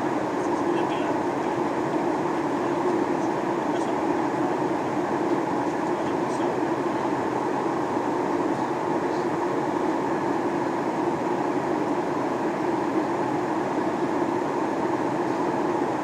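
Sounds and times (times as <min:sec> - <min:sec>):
airflow rush in aircraft cabin: 0:00.0 - 0:16.0.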